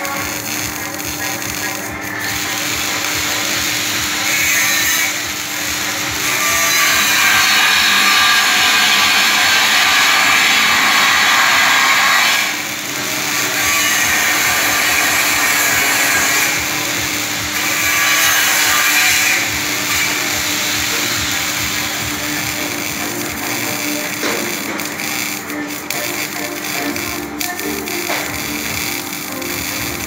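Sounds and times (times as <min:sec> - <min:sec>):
welding arc hissing: 0:00.0 - 0:30.0.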